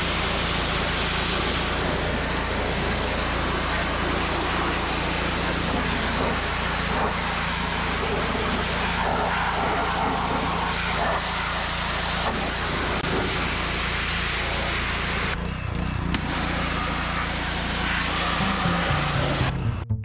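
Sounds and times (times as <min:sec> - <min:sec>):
pressure washer spray hissing: 0:00.0 - 0:15.3, 0:16.2 - 0:19.4
gasoline engine droning: 0:00.0 - 0:20.0.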